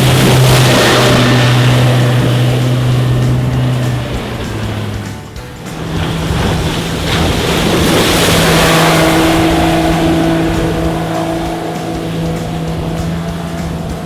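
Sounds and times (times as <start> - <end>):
outboard motor running: 0.0 - 14.0
rush of water and wind: 0.0 - 14.0.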